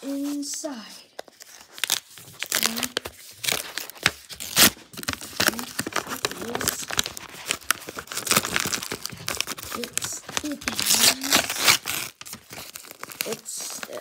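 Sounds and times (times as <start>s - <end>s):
bubble wrap crinkling: 0.0s - 14.0s
paper mailer tearing: 1.8s - 14.0s.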